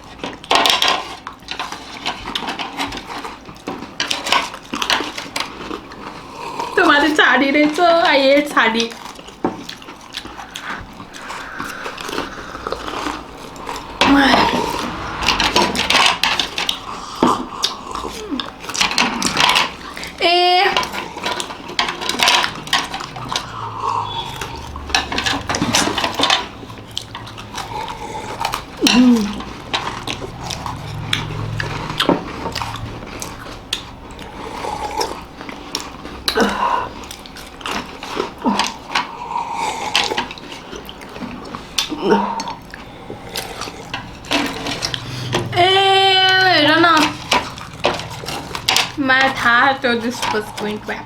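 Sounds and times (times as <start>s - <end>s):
people slurping coffee: 0.0s - 51.0s.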